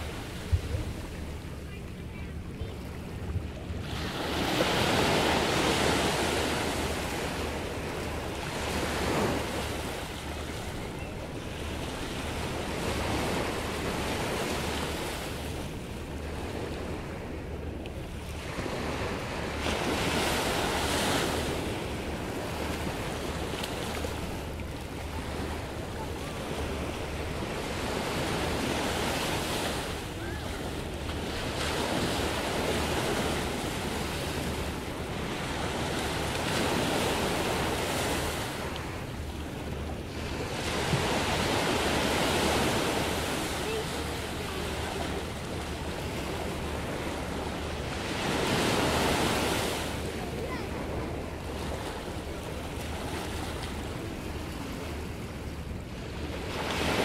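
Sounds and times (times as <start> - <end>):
surf washing up a beach: 0.0 - 57.0.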